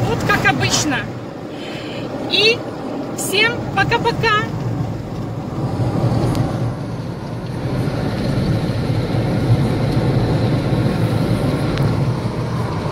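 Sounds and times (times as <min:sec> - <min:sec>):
car cabin rumble: 0:02.0 - 0:12.9.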